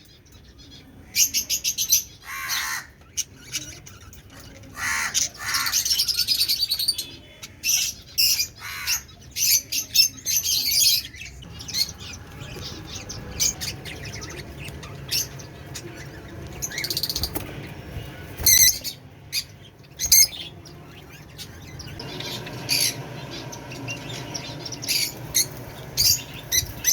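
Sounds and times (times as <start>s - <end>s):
caged birds chirping: 0.0s - 26.9s.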